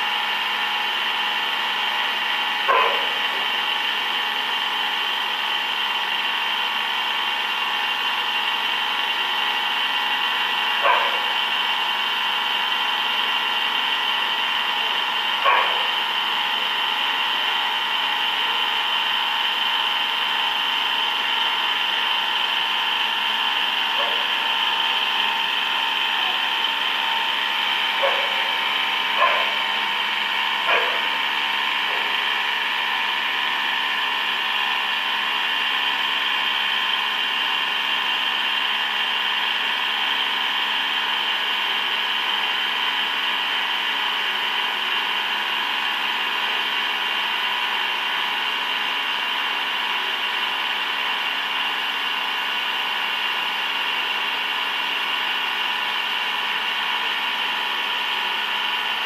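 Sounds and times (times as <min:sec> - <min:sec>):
machine tool whine: 0:00.0 - 0:59.0.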